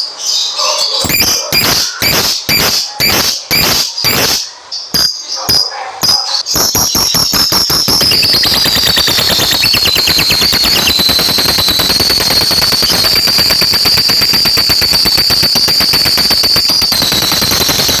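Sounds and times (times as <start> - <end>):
lovebird rapid chattering song: 1.0 - 18.0
shrill high tone: 1.0 - 18.0.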